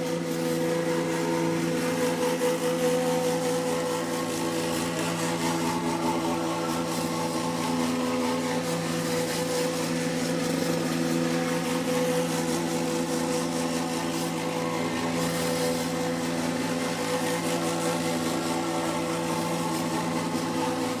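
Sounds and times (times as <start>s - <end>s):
plate compactor engine running: 0.0s - 21.0s.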